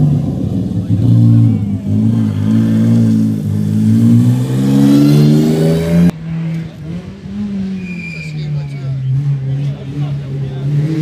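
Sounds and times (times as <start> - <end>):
rally car engine: 0.0 - 11.0.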